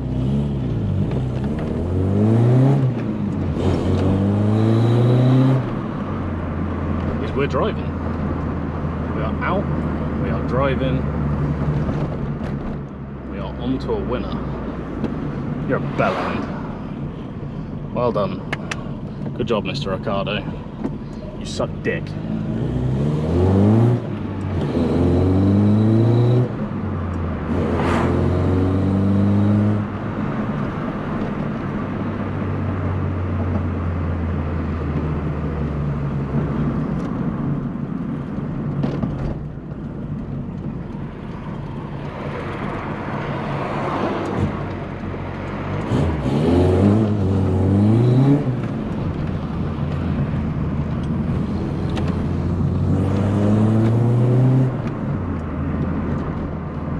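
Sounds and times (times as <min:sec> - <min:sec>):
car engine accelerating: 0:00.0 - 0:17.8, 0:20.7 - 0:56.9.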